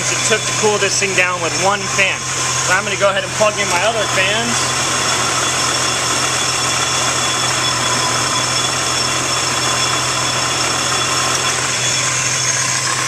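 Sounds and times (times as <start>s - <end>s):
car engine idling: 0.0s - 13.0s
supercharger whine: 0.0s - 13.0s.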